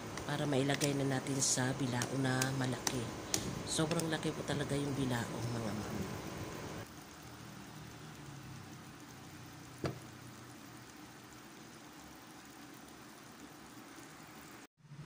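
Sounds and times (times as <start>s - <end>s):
rice sizzling and bubbling in pan: 0.0s - 14.7s.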